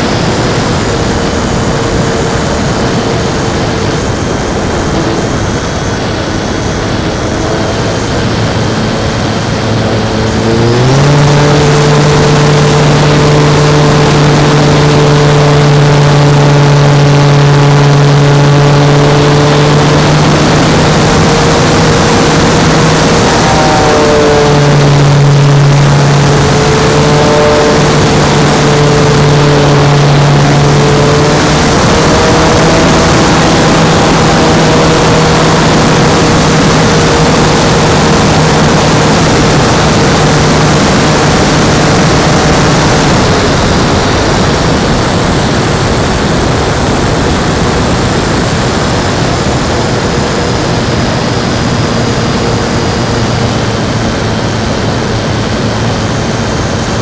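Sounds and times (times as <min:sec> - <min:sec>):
electric motor and propeller droning: 0:00.0 - 0:57.0
rushing wind noise: 0:00.0 - 0:57.0.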